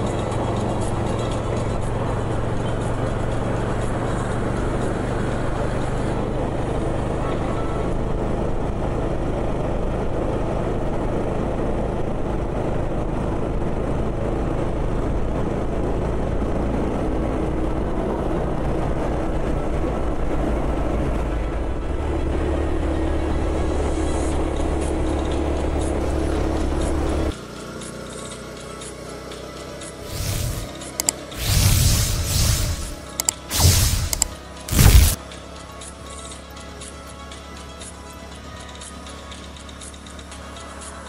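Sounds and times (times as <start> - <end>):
vehicle engine hum: 0.0 - 41.0.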